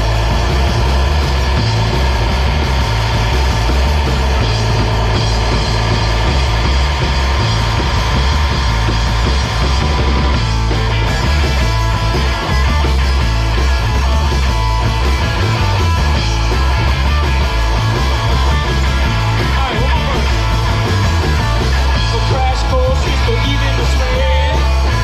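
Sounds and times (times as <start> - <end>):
punk rock band playing loudly: 0.0 - 25.0.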